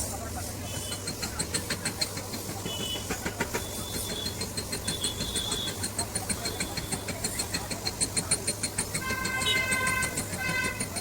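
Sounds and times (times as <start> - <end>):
rapid metallic tapping: 0.8 - 11.0.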